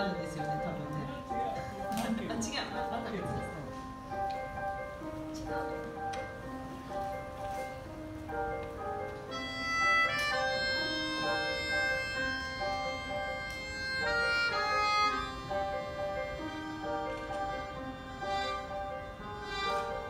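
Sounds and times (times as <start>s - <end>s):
keyboard: 0.0s - 20.0s
harmonica melody: 2.7s - 20.0s.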